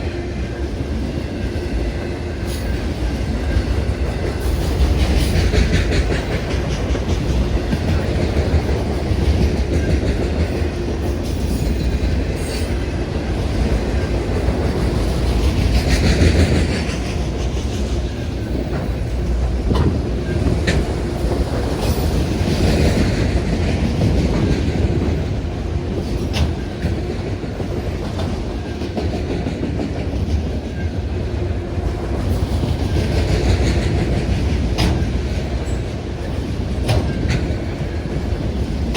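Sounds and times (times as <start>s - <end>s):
freight train cars rumbling: 0.0s - 38.9s
wheels clicking over rail joints: 3.6s - 30.9s, 31.9s - 38.9s.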